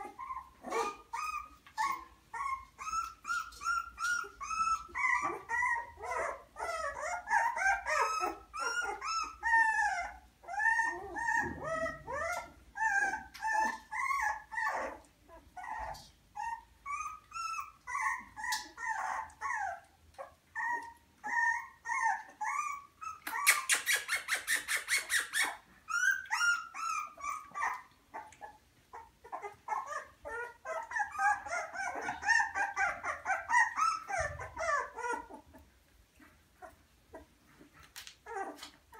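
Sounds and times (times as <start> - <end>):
puppies whining and yelping: 0.0 - 38.9.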